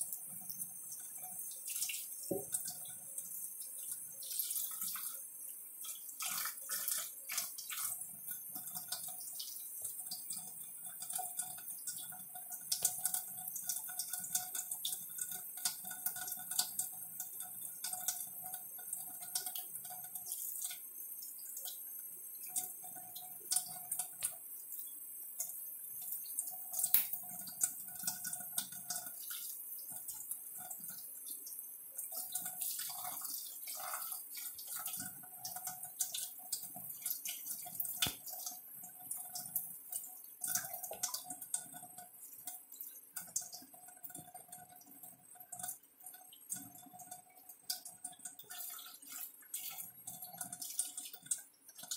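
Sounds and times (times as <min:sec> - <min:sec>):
water splashing and dripping: 0:00.0 - 0:51.9.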